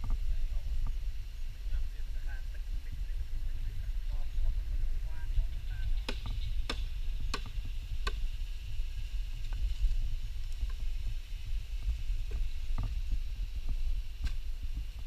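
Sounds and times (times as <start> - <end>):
faint high hiss: 0.0 - 15.0
wind buffeting microphone: 0.0 - 15.0.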